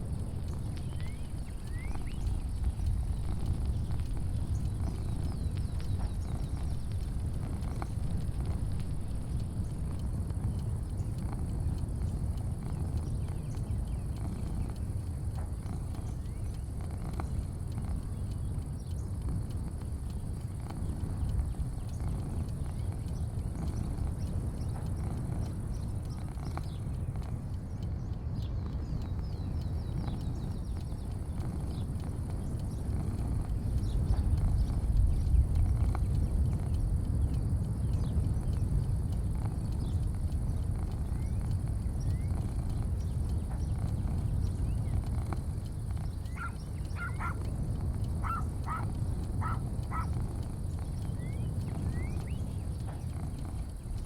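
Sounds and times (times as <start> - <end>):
small birds chirping: 0.0 - 54.0
steady low rumble: 0.0 - 54.0.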